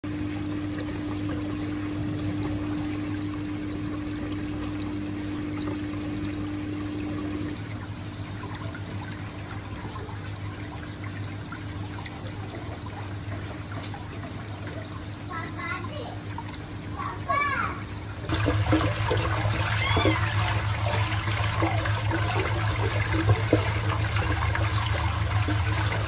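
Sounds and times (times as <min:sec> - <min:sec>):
low pump hum: 0:00.0 - 0:26.0
water trickling into fish tank: 0:00.0 - 0:26.0.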